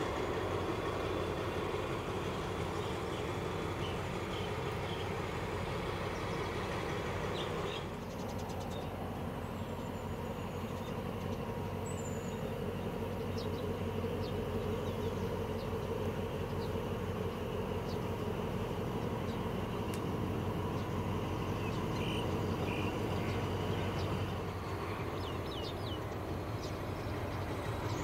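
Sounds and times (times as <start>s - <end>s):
distant locomotive engine drone: 0.0s - 28.0s.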